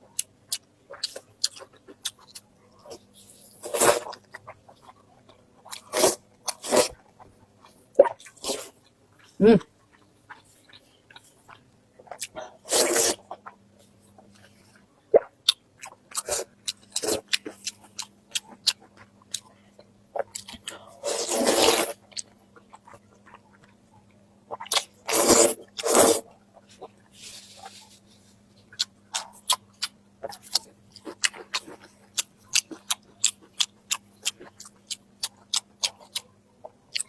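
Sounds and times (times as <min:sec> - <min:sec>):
person chewing and crunching: 0:00.1 - 0:13.5, 0:15.4 - 0:23.8, 0:24.5 - 0:28.0, 0:28.6 - 0:37.0.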